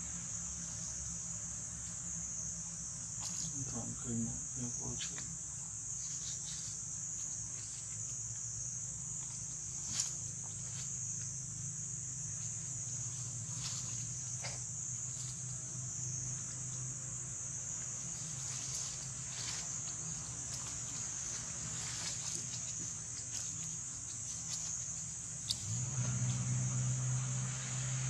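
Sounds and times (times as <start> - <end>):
insects droning: 0.0 - 28.0
faint rustles: 3.0 - 17.0, 17.6 - 26.5.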